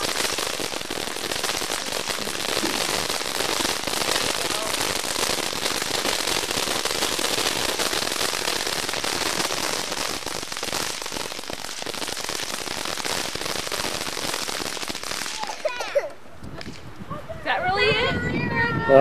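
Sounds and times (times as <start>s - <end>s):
fireworks crackling: 0.0s - 18.8s.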